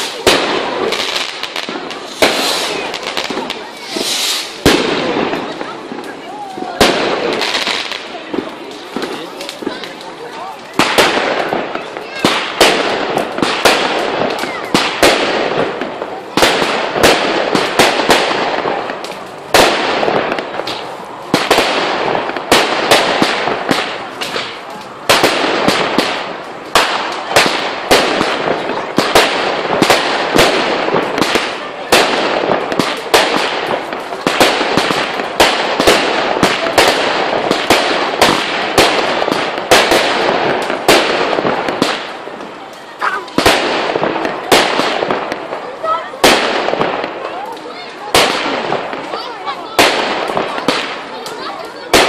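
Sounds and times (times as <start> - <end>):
crackle of exploding shells: 0.0 - 52.0
fireworks bangs: 0.0 - 52.0.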